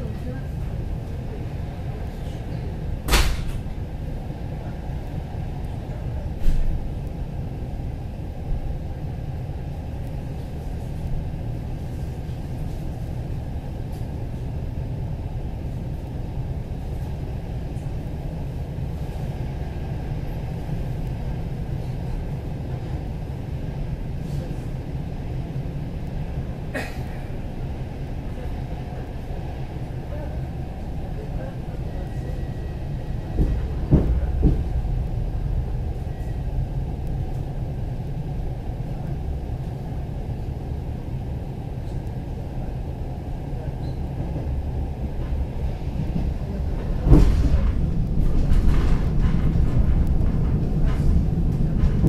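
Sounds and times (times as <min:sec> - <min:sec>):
train carriage rumble: 0:00.0 - 0:52.0.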